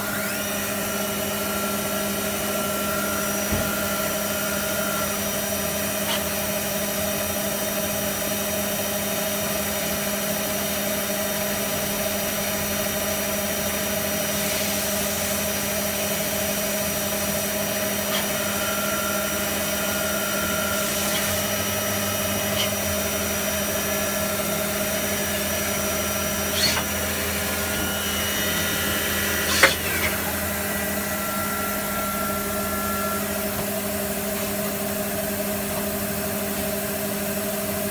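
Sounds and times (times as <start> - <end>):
high machine whine: 0.0 - 37.9
lathe mechanical hum: 0.0 - 37.9.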